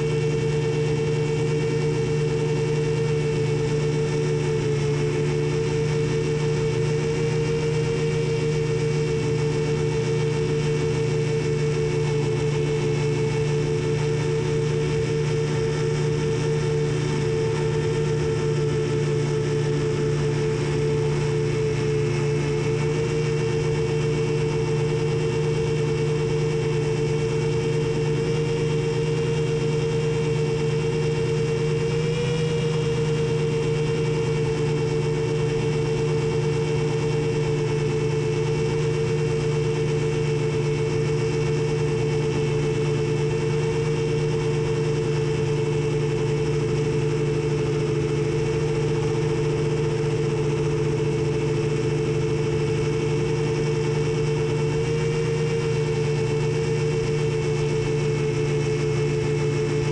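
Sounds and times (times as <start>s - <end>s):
quadcopter motors humming: 0.0s - 59.9s.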